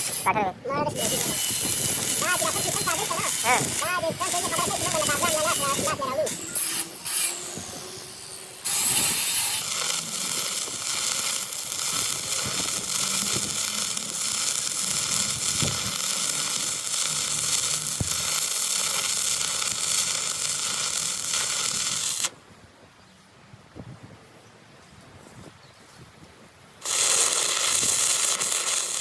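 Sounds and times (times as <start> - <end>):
arc welding crackling sizzle: 0.0 - 22.4, 26.8 - 29.0.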